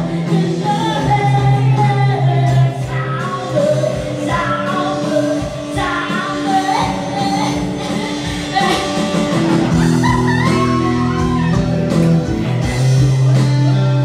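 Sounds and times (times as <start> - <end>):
woman singing into microphone: 0.0 - 11.7
electric guitar: 0.0 - 14.0.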